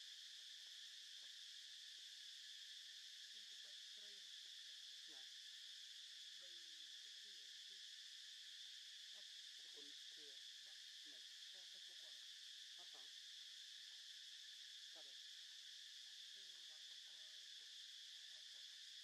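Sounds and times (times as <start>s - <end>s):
insect chorus buzzing: 0.0s - 19.0s.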